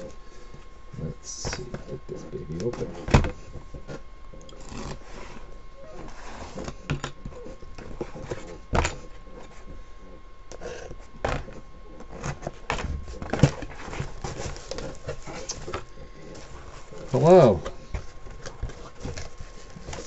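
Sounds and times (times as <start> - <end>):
cardboard and tape rustling: 1.3 - 20.0.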